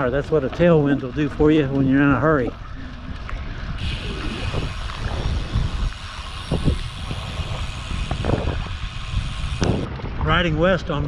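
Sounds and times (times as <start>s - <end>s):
wind rushing over microphone: 1.4s - 11.0s.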